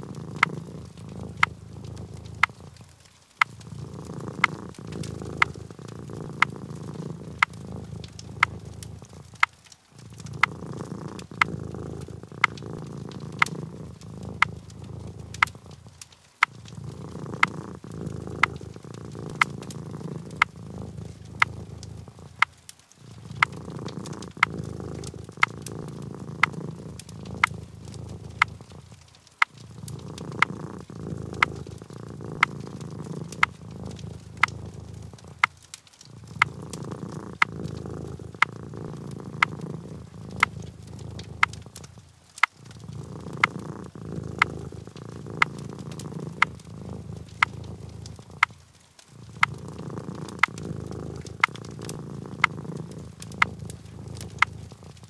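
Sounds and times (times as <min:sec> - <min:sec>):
cat purring: 0:00.0 - 0:55.0
wood fire crackling: 0:00.0 - 0:55.0.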